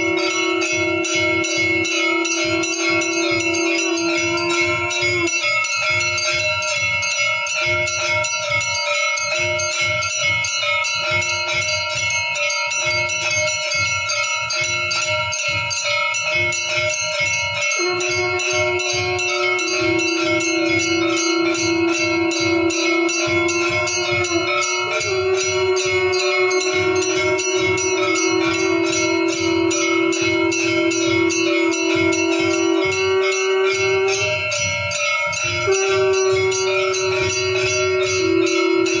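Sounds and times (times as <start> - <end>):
low held tone: 0.0 - 8.7, 16.4 - 39.0
bells rung rapidly: 0.0 - 39.0.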